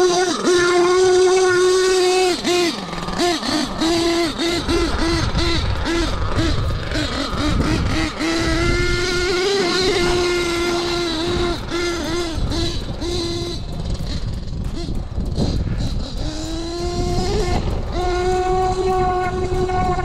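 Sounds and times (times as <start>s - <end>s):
small engine revving: 0.0s - 20.0s.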